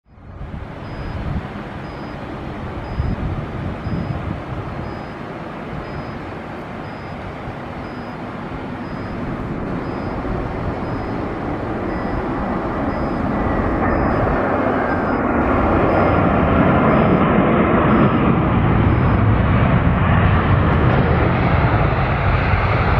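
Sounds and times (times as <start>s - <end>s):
jet engine rumble: 0.1s - 22.9s.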